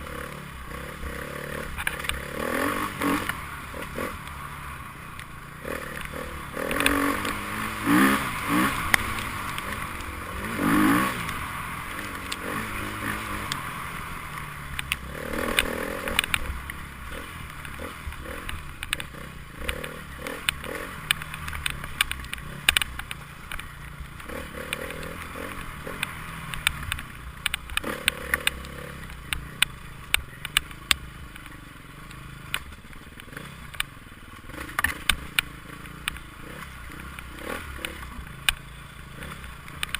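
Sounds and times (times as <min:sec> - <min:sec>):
motorcycle engine revving: 0:00.0 - 0:39.9
sharp clicks and knocks: 0:01.1 - 0:04.4, 0:05.1 - 0:39.9.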